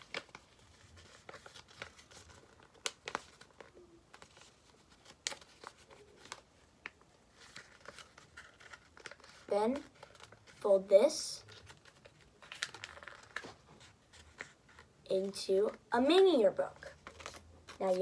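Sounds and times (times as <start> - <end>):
paper being folded: 0.0 - 16.1, 16.8 - 18.0.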